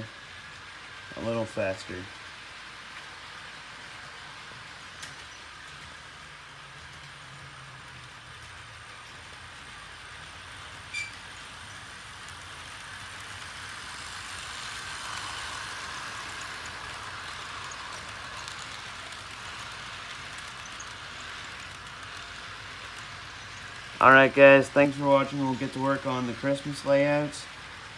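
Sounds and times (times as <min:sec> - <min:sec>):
model train whirring and rattling: 0:00.0 - 0:27.9.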